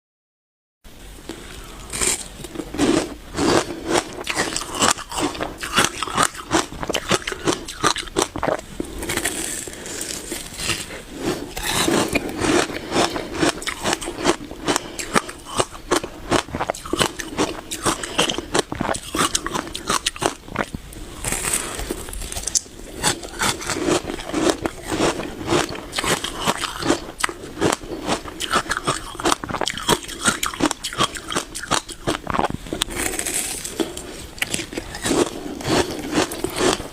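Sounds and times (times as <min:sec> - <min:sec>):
crunchy ice chewing: 0:01.8 - 0:36.9.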